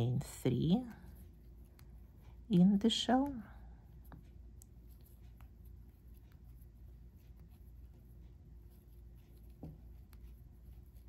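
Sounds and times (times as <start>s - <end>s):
crochet hook rustling thread: 0.0s - 11.0s
low steady hum: 0.0s - 11.0s.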